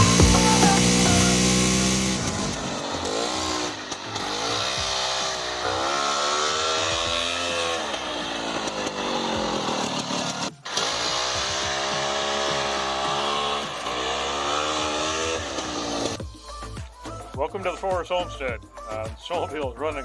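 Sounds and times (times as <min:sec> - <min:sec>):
snowmobile engine revving: 0:00.0 - 0:16.2.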